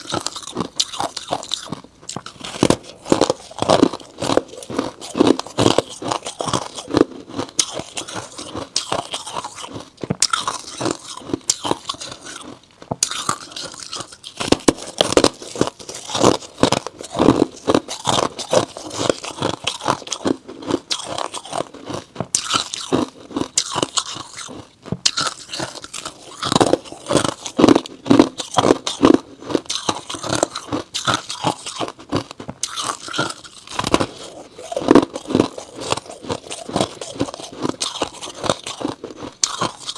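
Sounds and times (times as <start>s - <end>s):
frost crunching being chewed: 0.0s - 39.9s.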